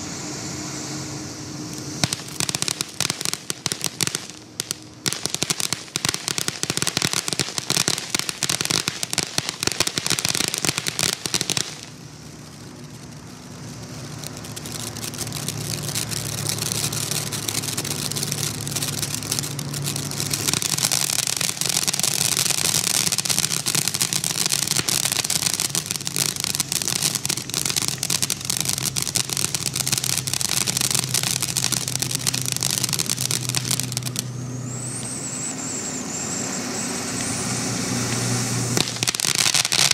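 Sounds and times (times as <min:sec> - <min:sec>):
steady low hum: 0:00.0 - 0:39.2
firework fountain crackling: 0:00.0 - 0:39.9.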